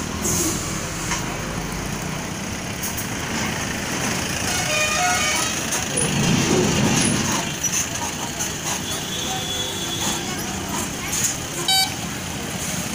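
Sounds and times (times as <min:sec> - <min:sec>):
road traffic with trucks: 0:00.0 - 0:12.9.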